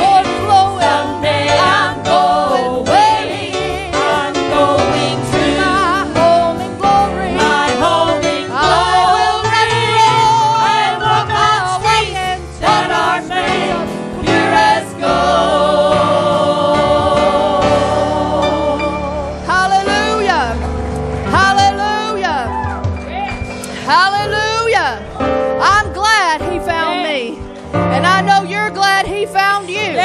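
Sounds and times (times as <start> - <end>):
congregation singing gospel: 0.0 - 25.4
instrumental accompaniment: 0.0 - 30.0.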